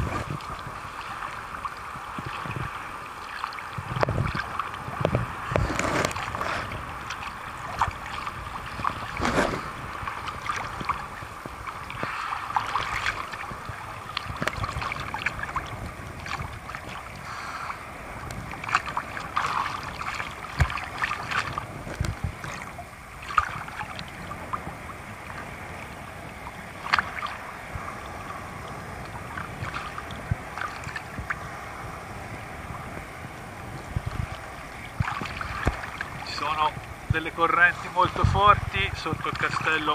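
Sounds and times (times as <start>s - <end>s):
sea water sloshing and splashing: 0.0s - 39.9s.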